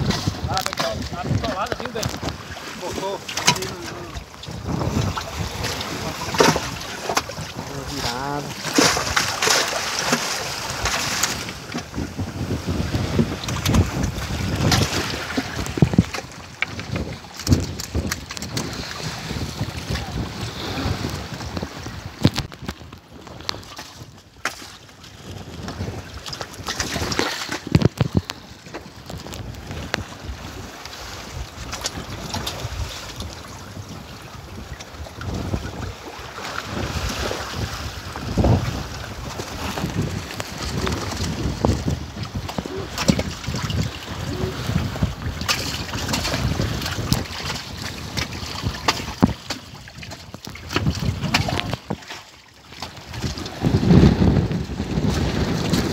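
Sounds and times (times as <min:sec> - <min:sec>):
sea wash: 0:00.0 - 0:55.9
wind buffeting microphone: 0:00.0 - 0:55.9.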